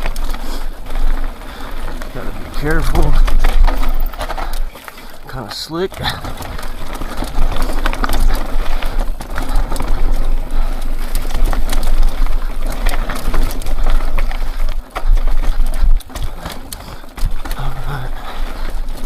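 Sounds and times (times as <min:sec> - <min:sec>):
bike knocking over rocks: 0:00.0 - 0:19.0
mountain bike clattering: 0:00.0 - 0:19.0.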